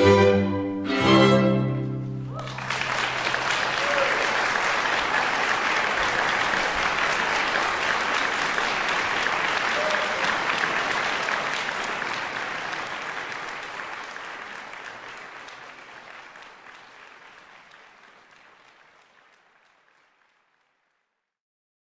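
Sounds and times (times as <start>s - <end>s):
crowd applauding: 2.2s - 21.3s.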